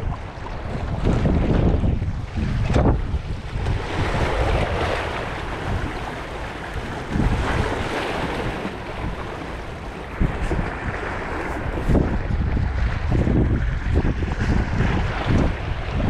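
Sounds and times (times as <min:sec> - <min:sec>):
wind buffeting microphone: 0:00.0 - 0:16.0
waves washing against rocks: 0:00.1 - 0:16.0.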